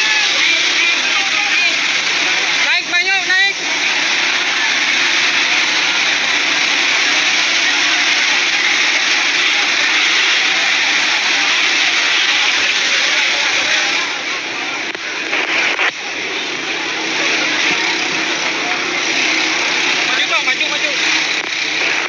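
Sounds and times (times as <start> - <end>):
pumps running: 0.0 - 22.0
water jetting from hoses: 0.0 - 22.0.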